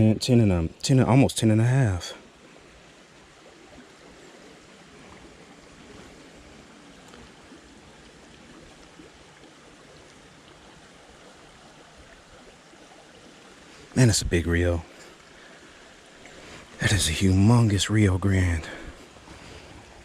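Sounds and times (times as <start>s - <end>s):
creek water flowing: 0.0s - 20.0s.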